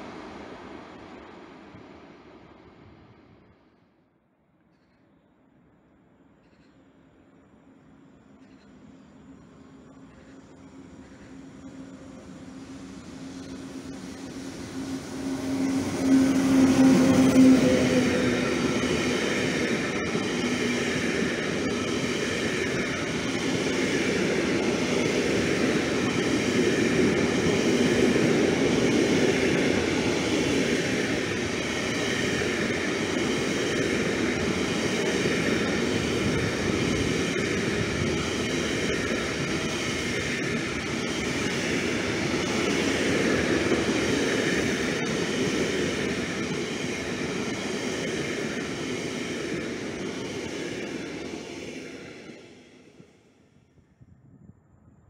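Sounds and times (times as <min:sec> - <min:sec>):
train wheels rumbling on rails: 0:00.0 - 0:03.1, 0:08.4 - 0:53.2
electric locomotive passing: 0:00.0 - 0:03.5, 0:07.4 - 0:53.6.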